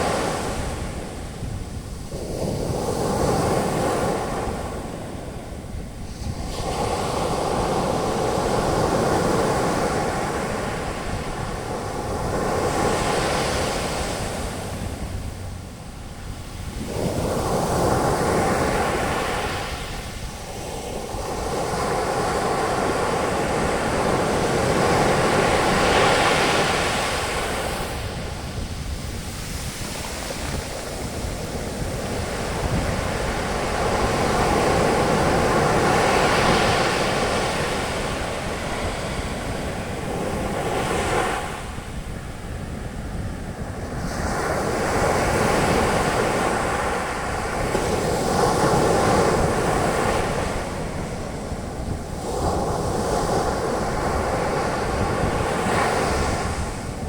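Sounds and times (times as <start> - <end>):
ocean waves breaking on beach: 0.0 - 57.0
wind on microphone: 0.0 - 57.0.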